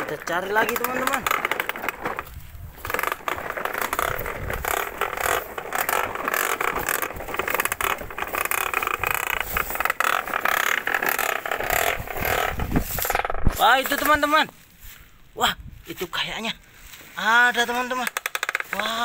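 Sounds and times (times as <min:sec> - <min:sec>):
plastic toy truck rattling over gravel: 0:00.0 - 0:14.5, 0:17.2 - 0:19.0.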